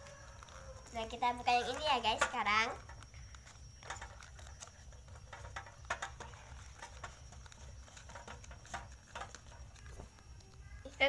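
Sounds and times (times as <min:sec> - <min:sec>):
plastic package crinkling: 0:00.0 - 0:11.0.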